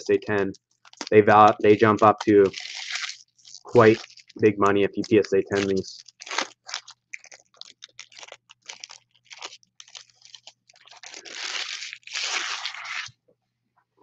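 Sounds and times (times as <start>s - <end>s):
foil wrapper crinkling: 0.0s - 13.2s.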